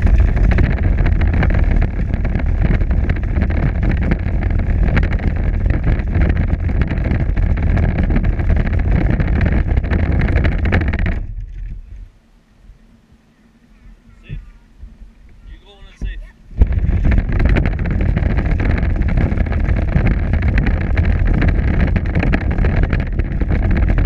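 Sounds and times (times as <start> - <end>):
plastic wheels rattling on pavement: 0.0 - 11.8, 15.4 - 24.0
electric drive whine: 0.0 - 24.0.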